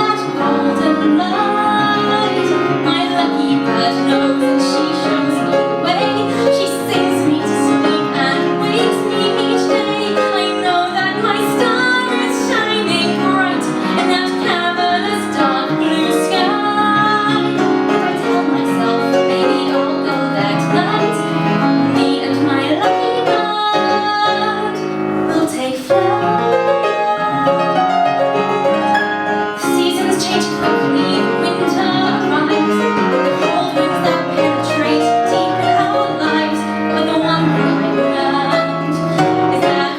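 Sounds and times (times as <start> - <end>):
woman singing a ballad: 0.0 - 28.3, 29.5 - 39.9
piano accompaniment: 0.0 - 39.9.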